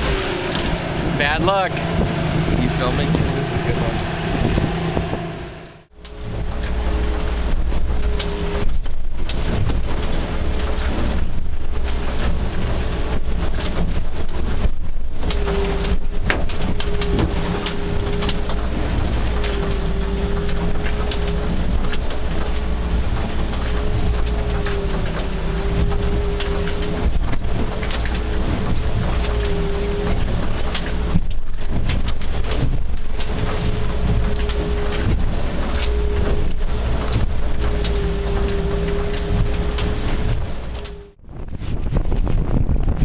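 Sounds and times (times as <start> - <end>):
boat hull through waves: 0.0 - 43.0
outboard motor running: 0.0 - 43.0.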